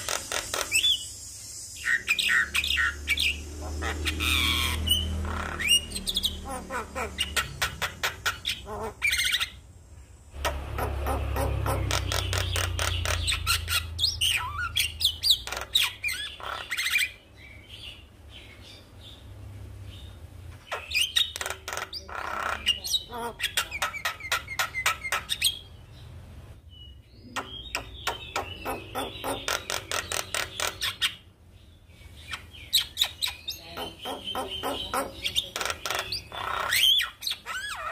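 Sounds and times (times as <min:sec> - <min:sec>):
bird chattering and whistling: 0:00.0 - 0:09.6, 0:10.4 - 0:17.2, 0:20.7 - 0:25.8, 0:27.2 - 0:31.3, 0:32.2 - 0:37.9.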